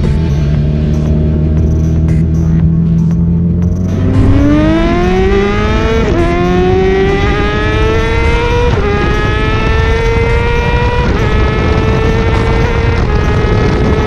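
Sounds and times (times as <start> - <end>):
vehicle engine accelerating: 0.0 - 14.0
wind and road noise: 0.0 - 14.0.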